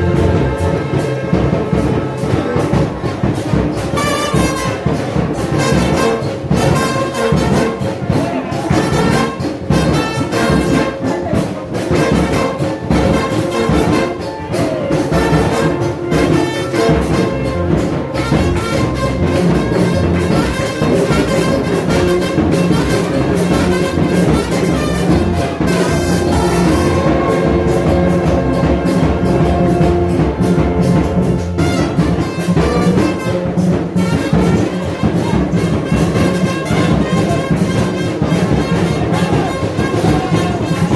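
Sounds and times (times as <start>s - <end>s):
brass band playing: 0.0s - 40.9s
steady percussive beat: 0.0s - 40.9s.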